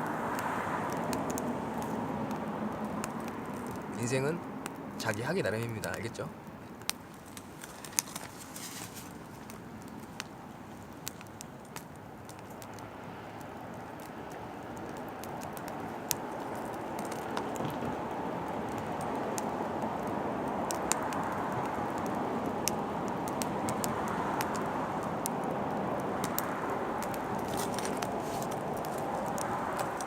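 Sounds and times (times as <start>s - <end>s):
fire rushing: 0.0s - 30.0s
firewood crackling and popping: 0.0s - 30.0s.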